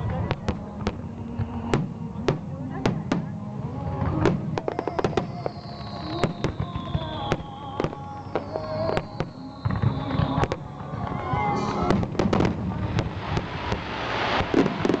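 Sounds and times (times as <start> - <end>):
fireworks booming and cracking: 0.0 - 15.0
music over loudspeakers: 0.0 - 15.0.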